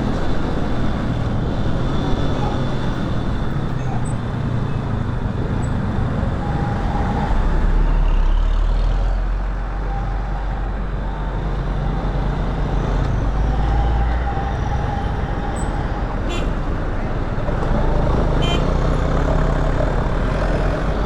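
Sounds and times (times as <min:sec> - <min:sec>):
heavy vehicles rumbling: 0:00.0 - 0:21.0.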